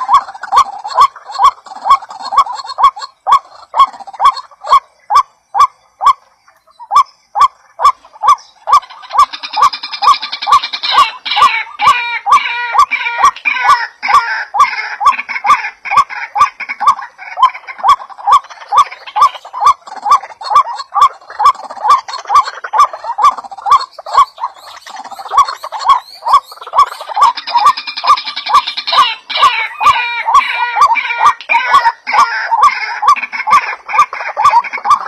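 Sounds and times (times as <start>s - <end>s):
harsh high bird chattering: 0.0s - 35.0s.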